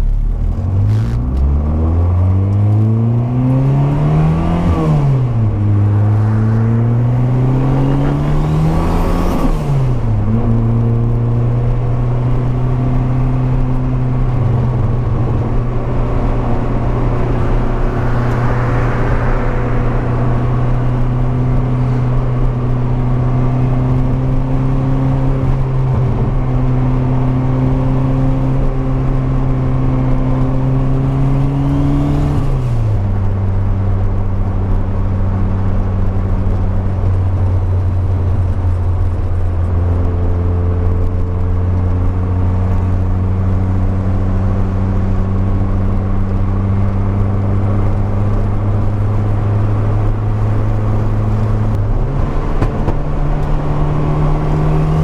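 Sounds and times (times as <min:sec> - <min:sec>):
car engine running: 0:04.6 - 0:31.6, 0:32.8 - 0:55.0.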